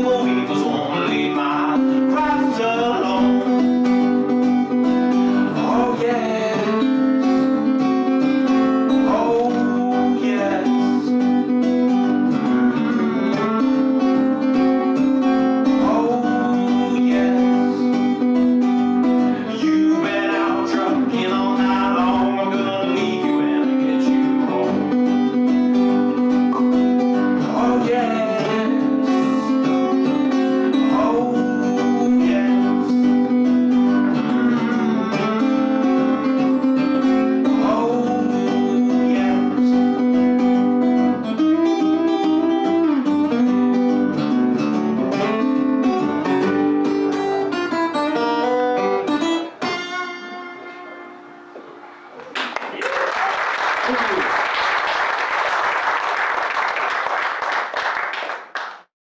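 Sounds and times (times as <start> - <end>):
acoustic blues guitar: 0.0 - 52.6, 53.6 - 58.2.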